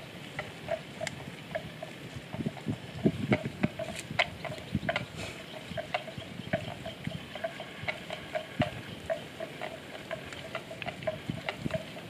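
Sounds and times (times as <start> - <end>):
buffalo tearing and crunching grass: 0.0 - 12.0.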